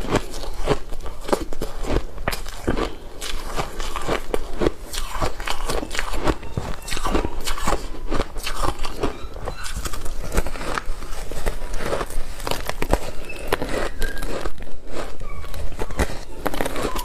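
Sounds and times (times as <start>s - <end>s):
ice crunching being chewed: 0.0s - 17.0s.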